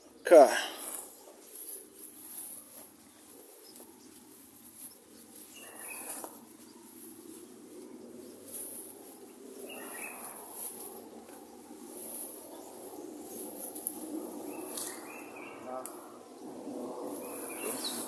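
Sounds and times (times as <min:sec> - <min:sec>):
birds calling: 0:00.0 - 0:18.0
outdoor ambience: 0:00.0 - 0:18.0.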